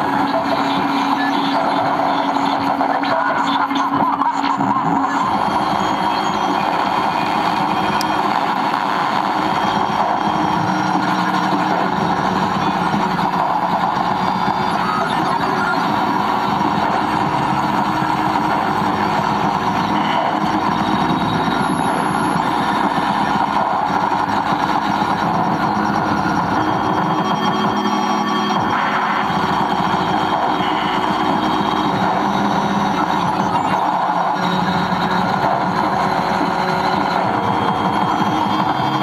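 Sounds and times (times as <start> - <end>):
dense electronic noise: 0.0 - 39.0.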